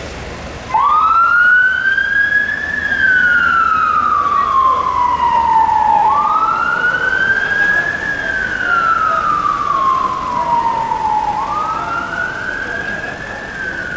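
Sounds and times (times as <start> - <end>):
police siren wailing: 0.7 - 13.9.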